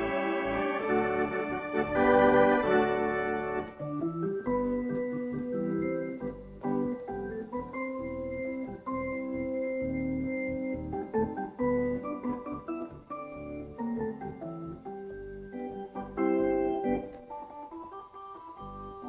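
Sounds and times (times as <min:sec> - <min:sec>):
organ playing chords: 0:00.0 - 0:19.0.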